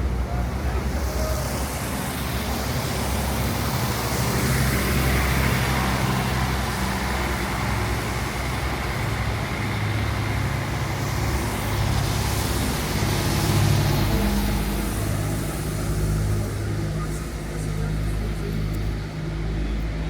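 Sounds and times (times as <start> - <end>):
traffic noise: 0.0 - 20.0
vehicle engine running: 0.0 - 20.0.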